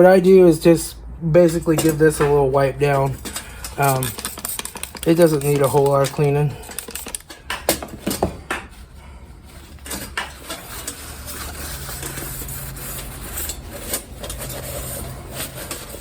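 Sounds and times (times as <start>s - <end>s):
rag rustling: 1.7s - 16.0s.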